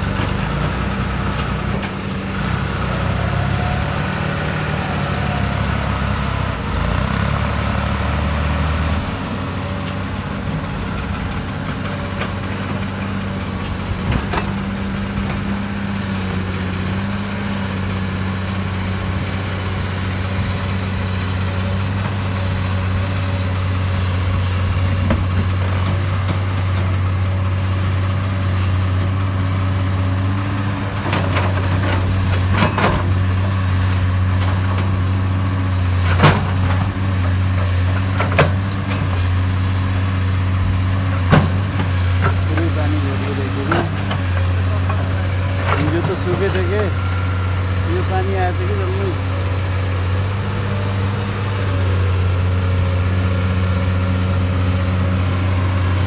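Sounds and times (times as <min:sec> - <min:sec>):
diesel engines droning: 0:00.0 - 0:56.0.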